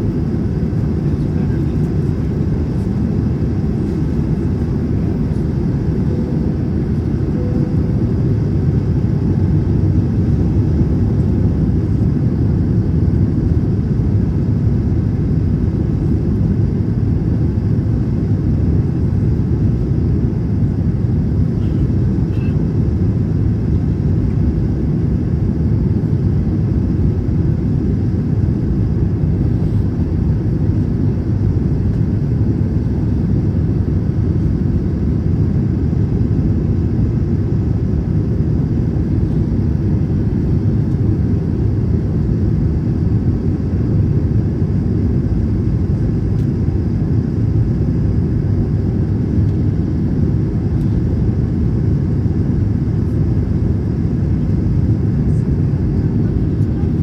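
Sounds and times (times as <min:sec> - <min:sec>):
aircraft cabin rumble: 0:00.0 - 0:57.0.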